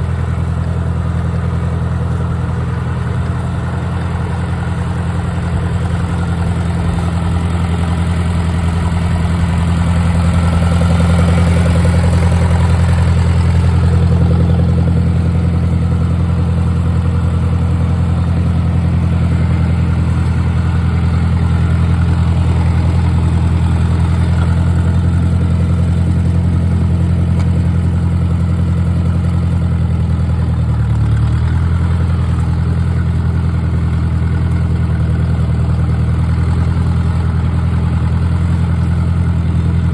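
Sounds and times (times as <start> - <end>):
tractor engine running at low revs: 0.0 - 39.9.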